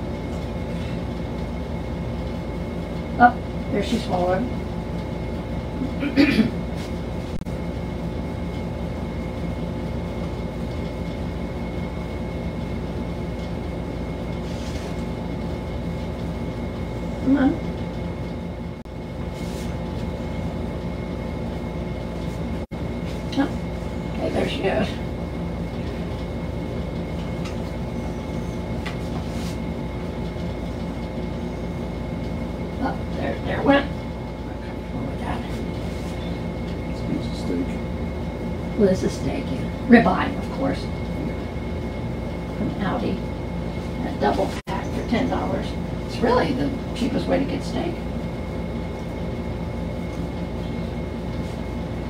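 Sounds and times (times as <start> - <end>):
high constant whine: 0.0 - 52.0
low hum and rumble: 0.0 - 52.0.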